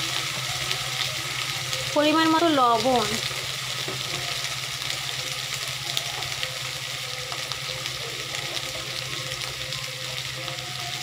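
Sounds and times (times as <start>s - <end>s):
beans sizzling in hot oil: 0.0s - 11.0s.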